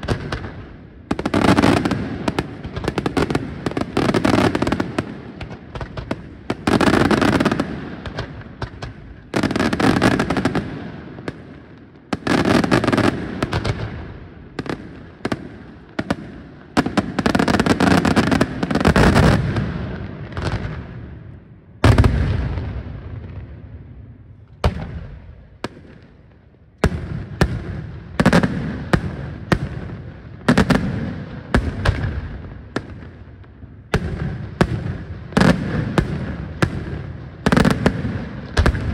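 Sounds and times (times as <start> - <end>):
fireworks crackling: 0.0 - 21.2, 26.8 - 38.9
fireworks bangs: 0.0 - 38.9
rolling echo: 0.0 - 38.9.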